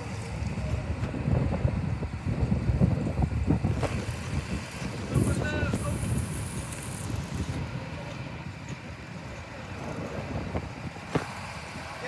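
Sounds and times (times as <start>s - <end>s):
boat motor rumbling: 0.0s - 12.0s
wind buffeting microphone: 0.0s - 12.0s.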